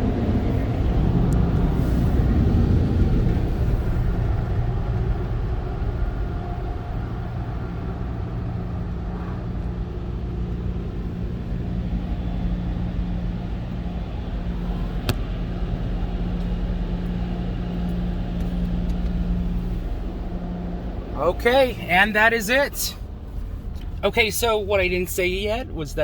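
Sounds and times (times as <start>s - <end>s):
car wash equipment rumbling: 0.0s - 26.0s.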